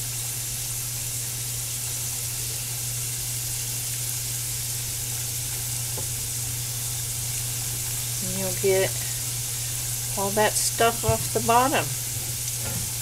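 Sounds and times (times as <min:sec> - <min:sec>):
water sizzling in hot skillet: 0:00.0 - 0:13.0
steady low hum: 0:01.2 - 0:13.0.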